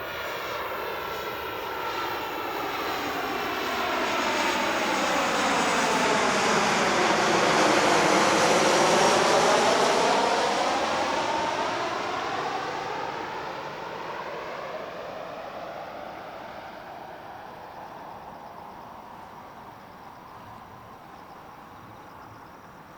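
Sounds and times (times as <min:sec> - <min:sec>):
jet airliner passing overhead: 0:00.0 - 0:22.9.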